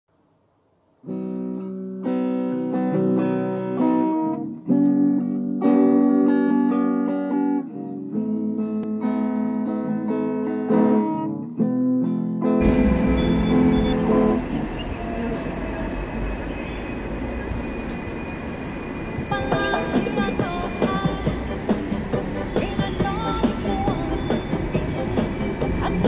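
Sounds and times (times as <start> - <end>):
strummed guitar chords: 1.0 - 15.8, 19.1 - 26.0.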